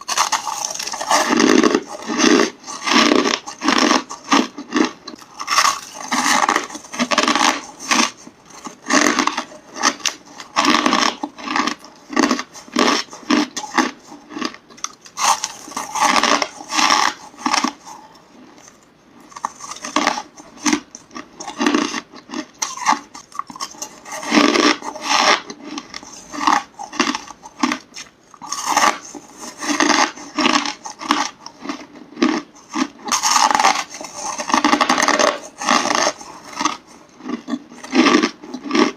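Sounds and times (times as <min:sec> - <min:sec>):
chewing crushed ice: 0:00.0 - 0:38.9.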